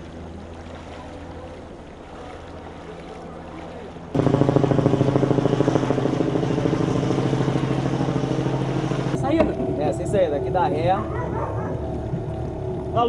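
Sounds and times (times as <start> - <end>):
engine running with even throb: 0.0 - 13.0
low steady hum: 0.0 - 13.0.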